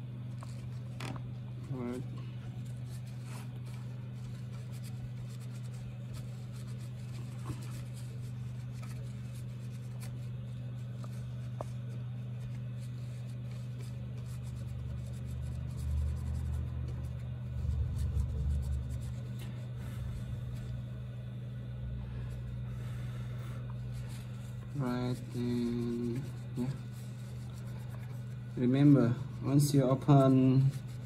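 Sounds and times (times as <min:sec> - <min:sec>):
steady low hum: 0:00.0 - 0:31.0
tissue rubbing on circuit board: 0:01.7 - 0:20.9, 0:22.3 - 0:31.0.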